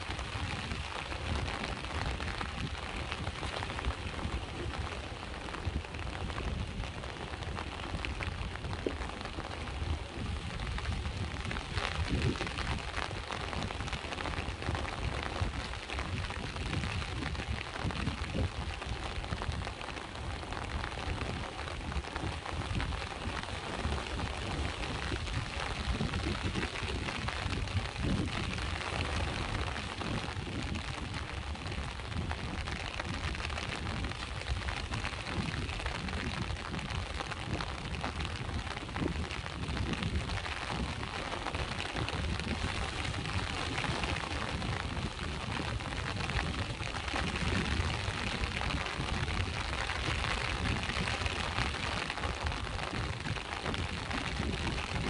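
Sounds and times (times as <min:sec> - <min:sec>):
rain falling: 0:00.0 - 0:55.0
sea waves rumbling: 0:00.0 - 0:55.0.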